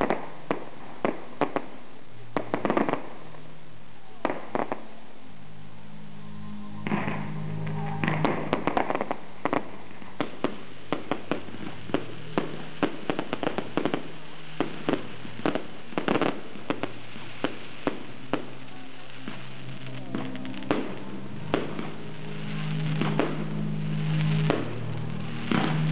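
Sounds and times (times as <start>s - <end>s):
fireworks bangs and cracks: 0.0s - 3.5s, 6.8s - 25.9s.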